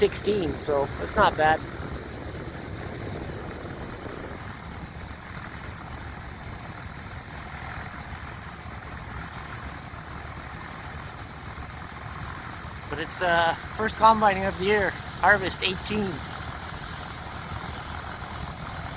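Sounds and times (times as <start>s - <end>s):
combine engine drone: 0.0s - 18.9s.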